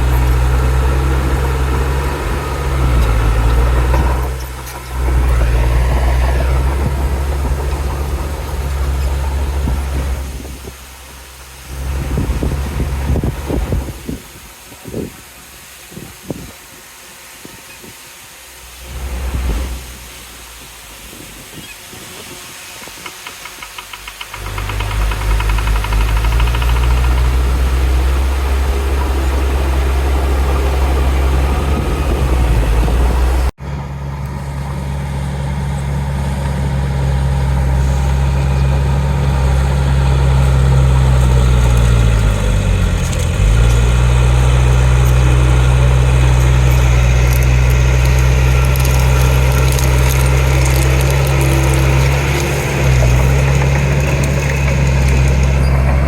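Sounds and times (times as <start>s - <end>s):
heavy diesel engine running: 0.0s - 14.4s, 23.8s - 56.0s.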